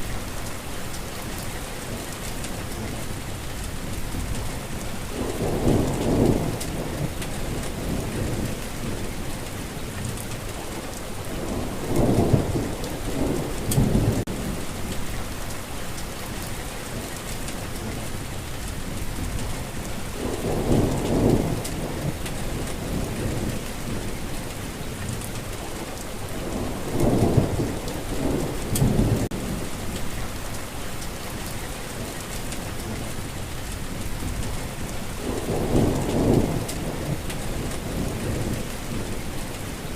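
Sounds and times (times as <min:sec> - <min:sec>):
steady rain falling: 0:00.0 - 0:39.9
low thunder rumbles: 0:02.5 - 0:15.5, 0:17.6 - 0:30.5, 0:32.3 - 0:39.9.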